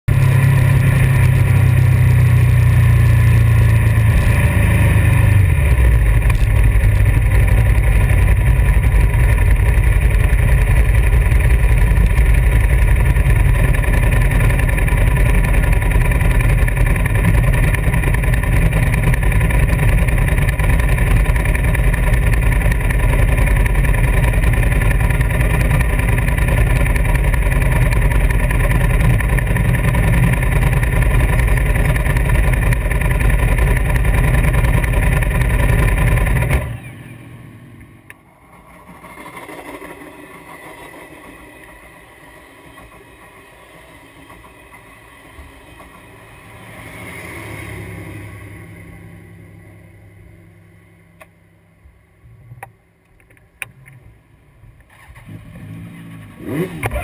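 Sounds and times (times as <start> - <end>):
motorcycle engine rumbling: 0.1 - 57.0.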